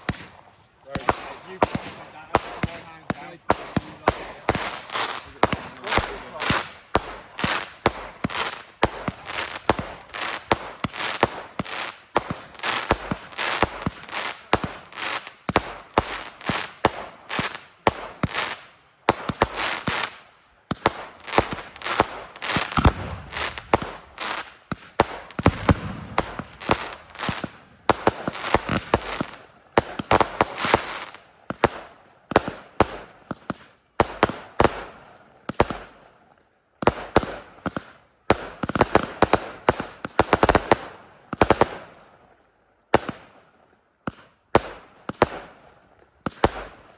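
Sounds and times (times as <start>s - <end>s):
fireworks bangs and crackling: 0.0s - 36.1s, 36.8s - 41.9s, 44.1s - 45.6s, 46.3s - 46.9s.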